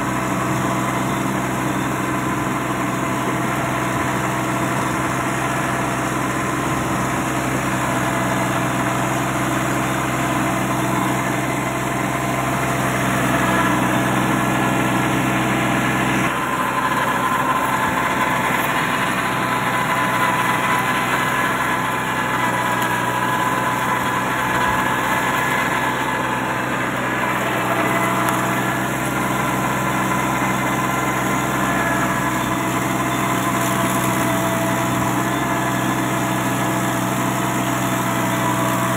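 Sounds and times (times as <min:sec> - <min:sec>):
rotavator churning soil: 0:00.0 - 0:38.9
tractor diesel engine running: 0:00.0 - 0:38.9.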